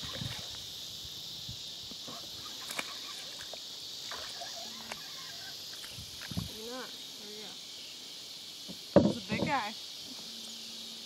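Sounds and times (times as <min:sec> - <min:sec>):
high chorus of insects: 0:00.0 - 0:11.0.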